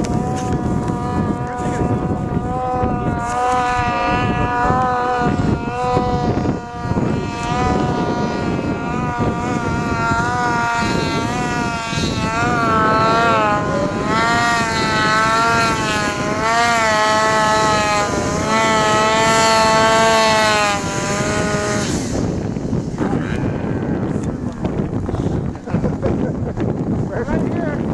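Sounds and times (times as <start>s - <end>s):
snowmobile engine revving: 0.0s - 27.9s.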